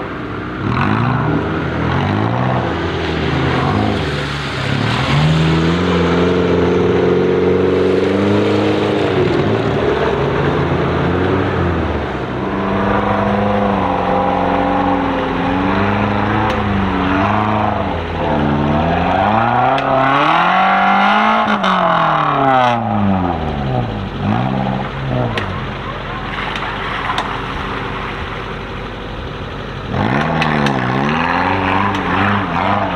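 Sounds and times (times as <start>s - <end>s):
off-road engine revving: 0.0s - 32.9s.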